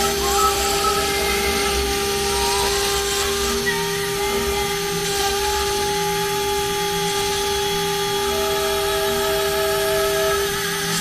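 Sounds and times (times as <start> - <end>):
router spindle high whine: 0.0 - 11.0.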